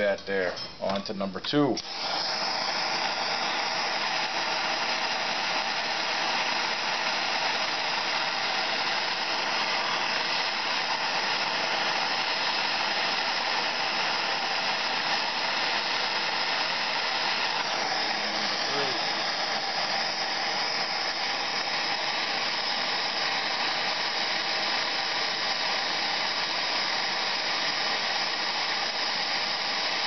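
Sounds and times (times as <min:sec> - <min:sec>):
gas torch hissing: 0:01.7 - 0:30.0.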